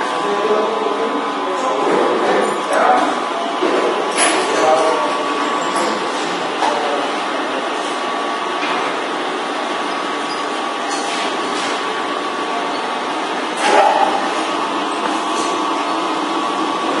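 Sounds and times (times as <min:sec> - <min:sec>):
milling machine hum and whine: 0:00.0 - 0:17.0.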